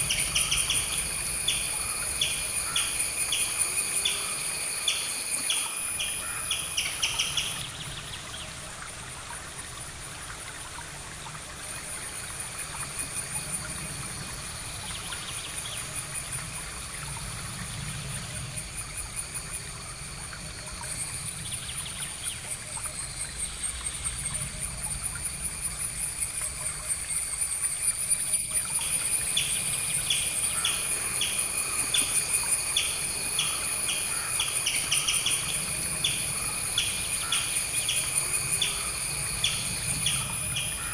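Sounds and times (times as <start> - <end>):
high-pitched insect trill: 0.0 - 8.4, 9.4 - 40.9.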